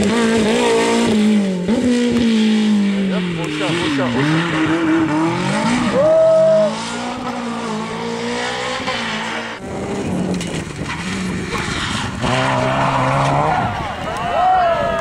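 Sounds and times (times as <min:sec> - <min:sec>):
rally car engine revving: 0:00.0 - 0:14.3.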